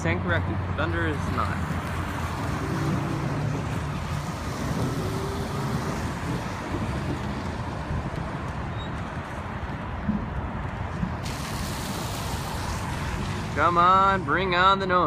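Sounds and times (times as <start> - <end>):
wind buffeting microphone: 0.2 - 15.0
steady rain: 1.8 - 14.3.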